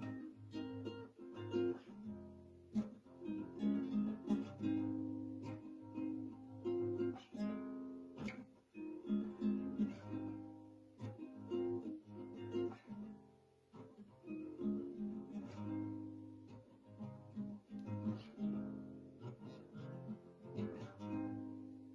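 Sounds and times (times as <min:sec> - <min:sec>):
nylon-string guitar strumming chords: 0:00.0 - 0:21.9.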